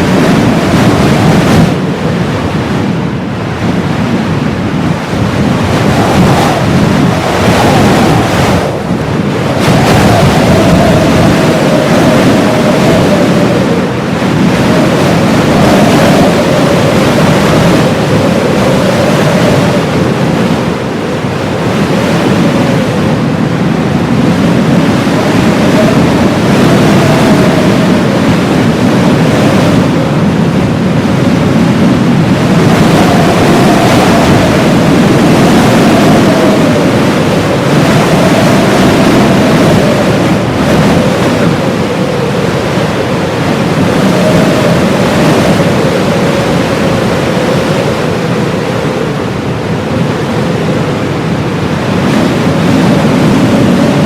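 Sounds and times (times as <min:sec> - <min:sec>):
blizzard wind howling: 0:00.0 - 0:54.0.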